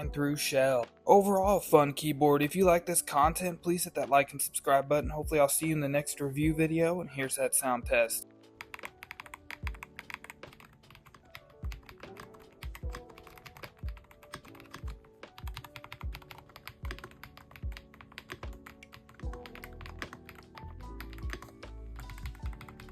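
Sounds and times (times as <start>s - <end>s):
background music with steady beat: 0.0s - 22.9s.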